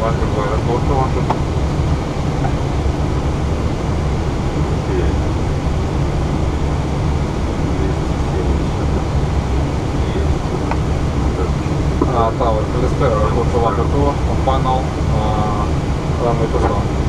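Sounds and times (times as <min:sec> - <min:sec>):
deep low rumble: 0:00.0 - 0:17.0
rush of airflow: 0:00.0 - 0:17.0.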